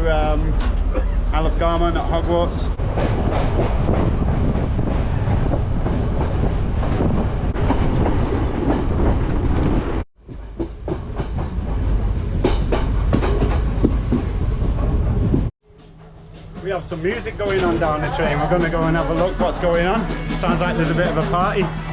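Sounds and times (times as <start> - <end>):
low train rumble: 0.0 - 21.9
train wheels clattering on track: 2.7 - 21.9.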